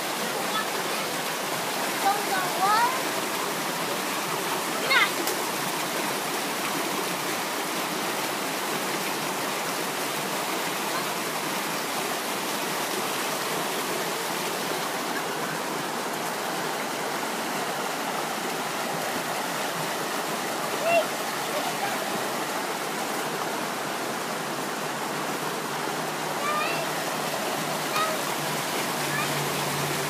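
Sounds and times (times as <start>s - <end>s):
water rushing over rocks: 0.0s - 30.0s.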